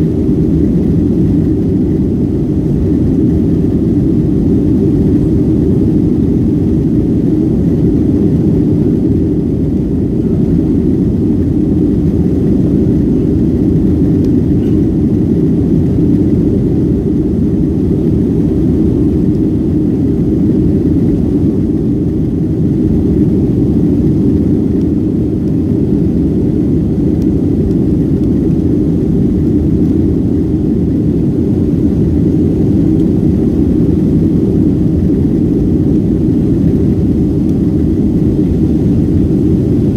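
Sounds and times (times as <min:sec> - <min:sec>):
jet cabin engine and airflow noise: 0:00.0 - 0:39.9.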